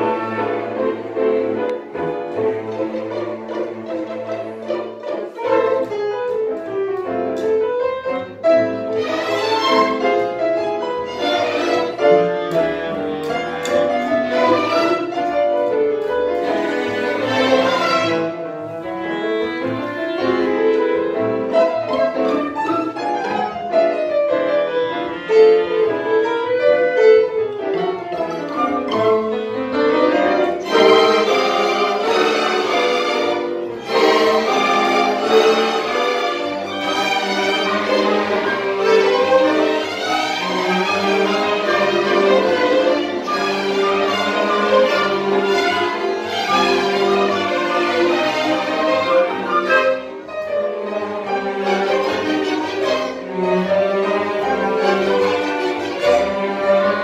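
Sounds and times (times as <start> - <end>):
bowed strings melody: 0.0 - 57.0
cellos: 0.0 - 57.0
piano: 0.0 - 57.0.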